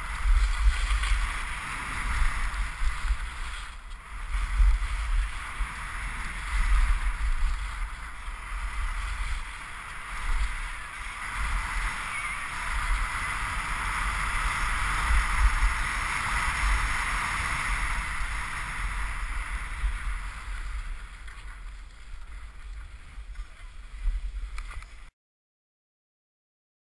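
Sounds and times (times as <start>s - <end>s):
skis scraping over snow: 0.0s - 25.1s
wind buffeting microphone: 0.0s - 25.1s.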